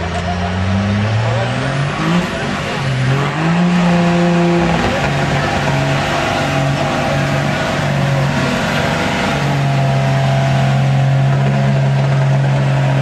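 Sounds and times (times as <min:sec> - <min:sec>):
truck engine droning under load: 0:00.0 - 0:13.0.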